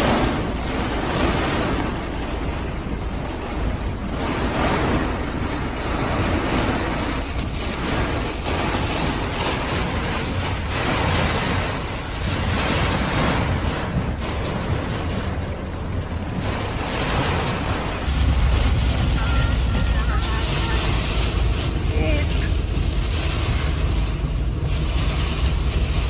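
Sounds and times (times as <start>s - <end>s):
heavy rain and wind on vehicle: 0.0s - 26.0s.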